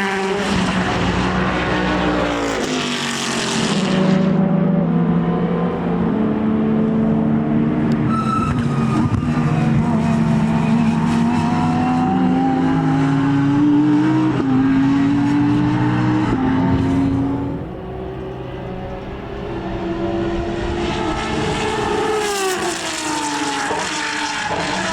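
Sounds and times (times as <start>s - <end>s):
racing car engine accelerating: 0.0s - 24.9s.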